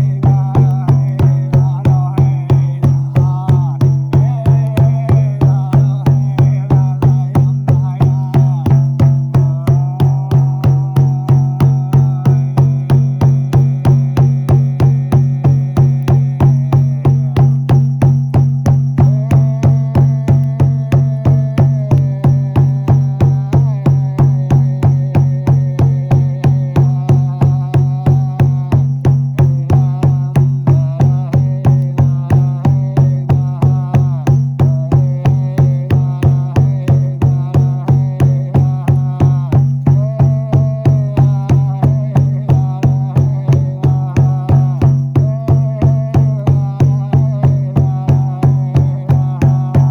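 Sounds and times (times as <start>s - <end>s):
frame drum beating: 0.0s - 49.9s.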